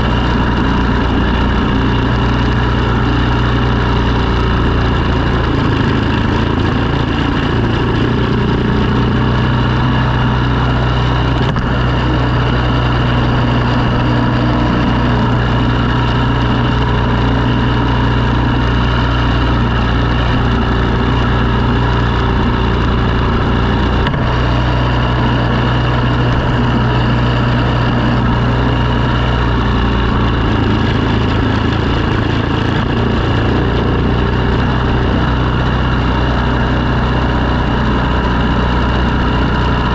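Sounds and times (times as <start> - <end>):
snow-clearing machine engine: 0.0 - 39.9.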